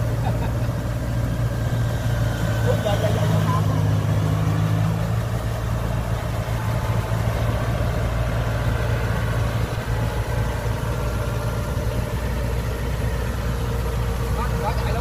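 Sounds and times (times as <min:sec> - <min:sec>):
combine harvester diesel engine: 0:00.0 - 0:15.0.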